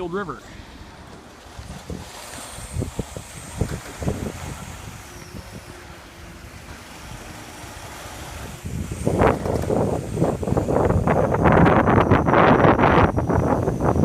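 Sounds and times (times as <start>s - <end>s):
low steady rumble: 0.0s - 14.0s
wind buffeting microphone: 0.0s - 14.0s.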